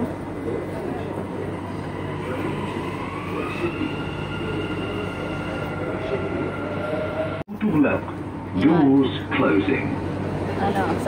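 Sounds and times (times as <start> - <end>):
train electrical hum and whine: 0.0 - 11.0.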